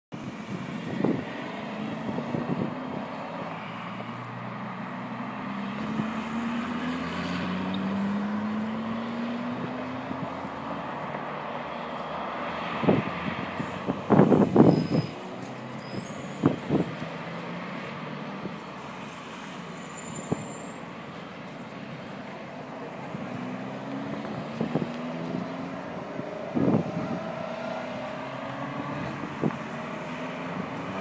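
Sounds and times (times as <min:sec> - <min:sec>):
sports car engines: 0:00.2 - 0:31.0.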